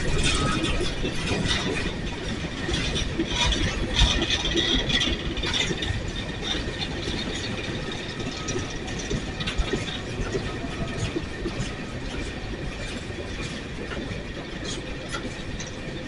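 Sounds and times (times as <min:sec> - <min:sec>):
rail cars rattling and clanking: 0:00.0 - 0:16.0.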